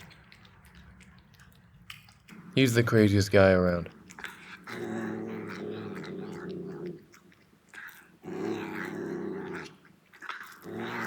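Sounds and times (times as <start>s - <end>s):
cat growling: 0.0s - 11.0s.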